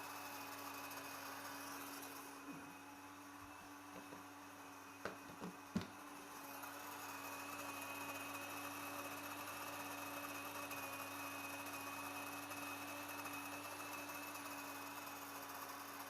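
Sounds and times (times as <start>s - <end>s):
electric grain mill grinding: 0.0s - 16.0s.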